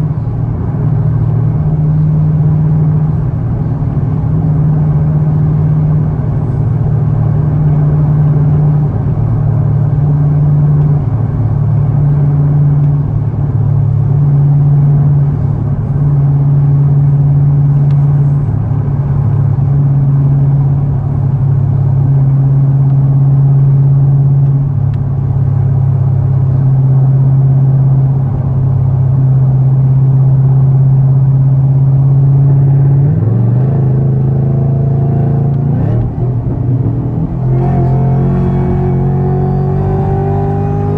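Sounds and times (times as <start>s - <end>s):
car engine droning: 0.0s - 40.9s.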